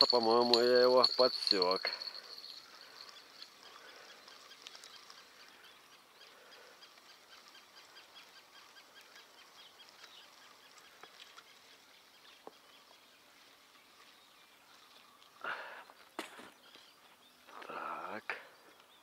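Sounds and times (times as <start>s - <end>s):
high chirping ticks: 0.0s - 17.7s, 18.5s - 19.0s
faint outdoor ambience: 0.0s - 19.0s.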